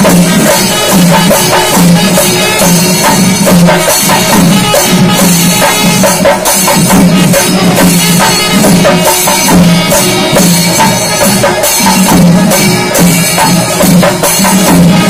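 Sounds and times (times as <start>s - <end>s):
cymbals: 0.0s - 15.0s
drums beaten with sticks: 0.0s - 15.0s.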